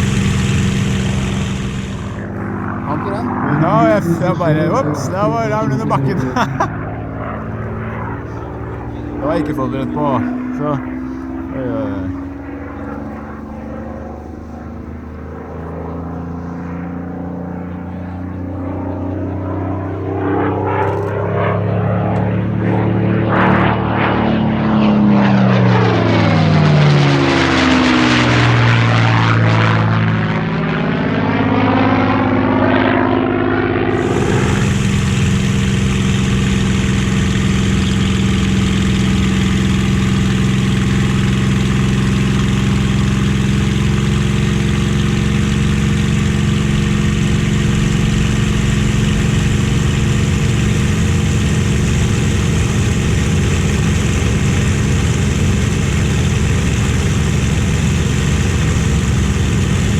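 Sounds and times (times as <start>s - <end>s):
propeller plane flying past: 0.0s - 59.9s
steady engine drone: 0.0s - 59.9s.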